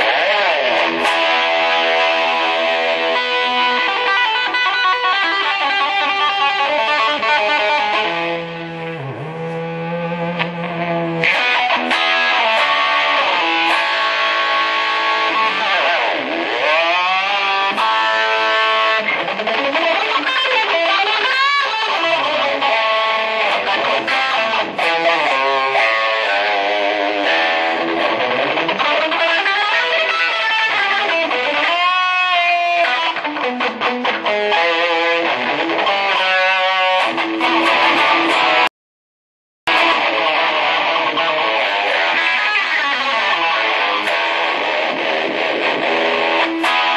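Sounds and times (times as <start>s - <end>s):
electric guitar lead lines: 0.0s - 38.7s, 39.7s - 46.9s.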